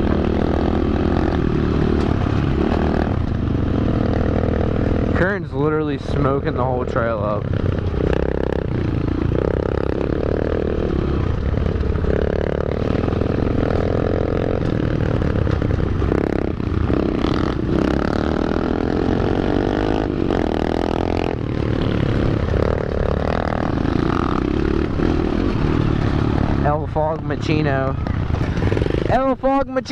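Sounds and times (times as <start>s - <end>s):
pit bike engines revving: 0.0s - 29.9s.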